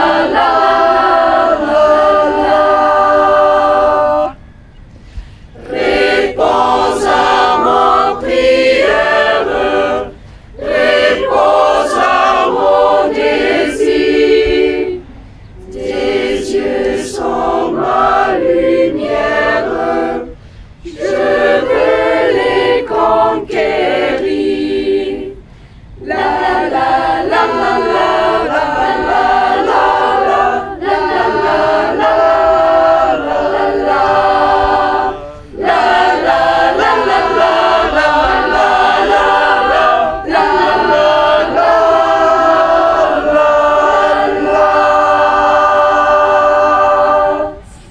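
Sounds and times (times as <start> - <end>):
youth choir singing a cappella: 0.0 - 4.6, 5.2 - 47.9.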